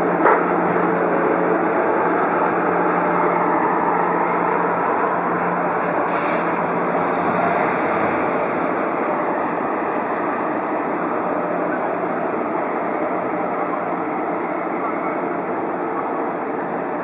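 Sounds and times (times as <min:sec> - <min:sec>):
electric locomotive running slowly: 0:00.0 - 0:17.0.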